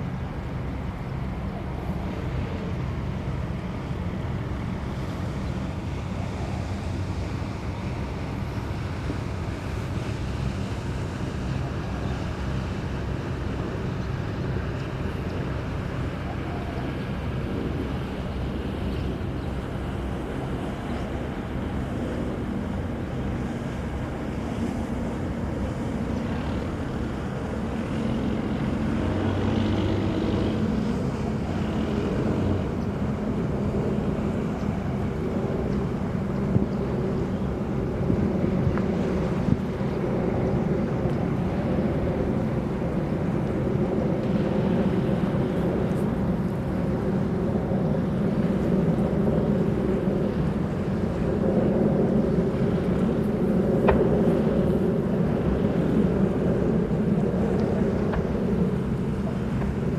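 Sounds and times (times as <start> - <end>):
ship engine noise: 0.0 - 59.9
wind buffeting microphone: 0.0 - 59.9.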